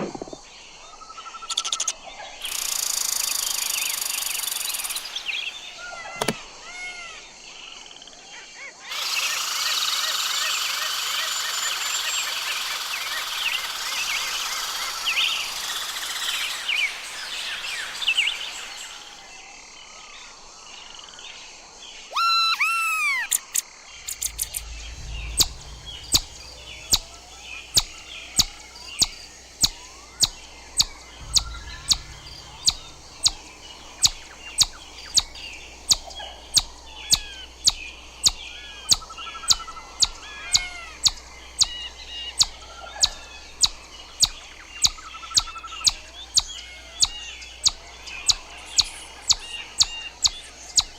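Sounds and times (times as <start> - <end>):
loud arching chirps: 0.0 - 8.0, 8.8 - 19.6, 22.0 - 50.9
birds singing faintly: 0.0 - 50.9
chipmunk chip calls: 1.4 - 7.1, 8.9 - 19.3, 22.2 - 50.9.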